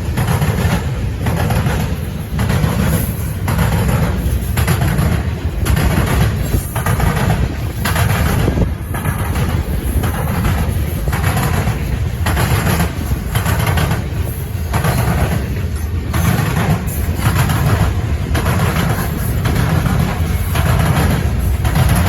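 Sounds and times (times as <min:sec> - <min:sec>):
freight train wheels rumbling on rail: 0:00.0 - 0:22.0.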